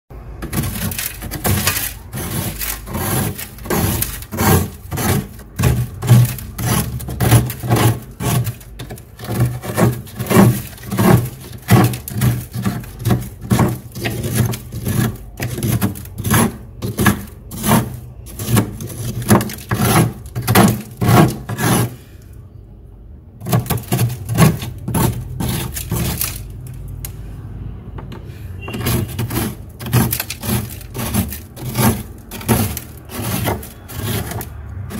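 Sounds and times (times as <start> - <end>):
metal spoon scraping frost: 0.3 - 22.4, 23.4 - 27.2, 28.1 - 34.9.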